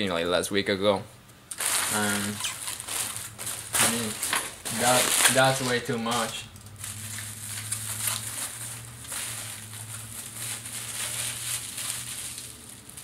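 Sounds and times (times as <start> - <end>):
packaging rustling and crinkling: 1.5 - 13.0.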